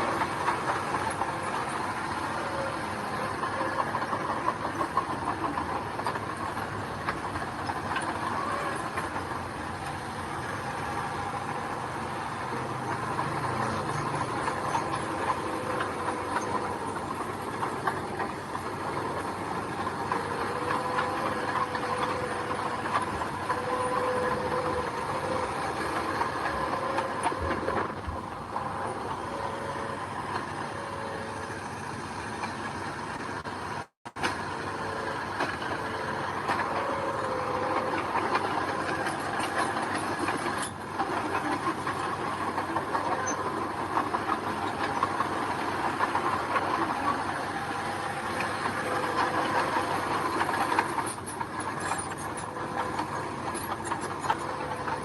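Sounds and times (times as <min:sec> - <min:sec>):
wavering machinery squeal: 0:00.0 - 0:33.1, 0:34.7 - 0:55.0
bulldozer diesel engine running: 0:00.0 - 0:55.0.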